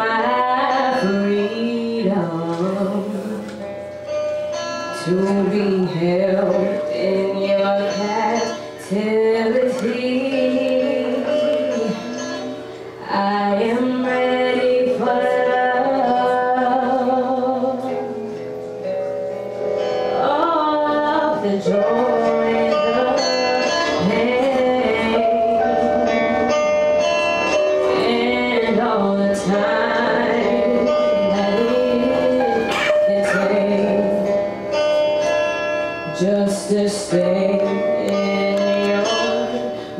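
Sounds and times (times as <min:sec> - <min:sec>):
woman singing with vibrato: 0:00.0 - 0:03.8, 0:05.0 - 0:18.4, 0:20.1 - 0:26.6, 0:27.7 - 0:34.8, 0:36.0 - 0:39.9.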